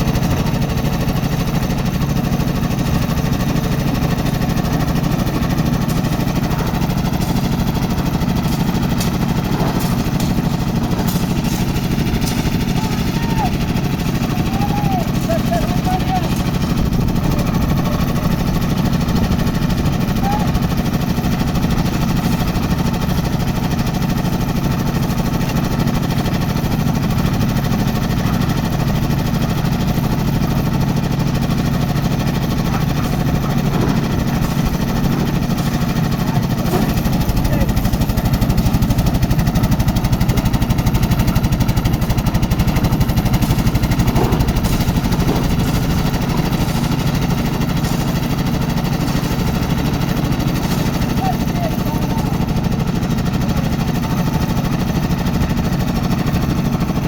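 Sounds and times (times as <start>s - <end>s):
concrete mixer engine knocking: 0.0s - 57.0s.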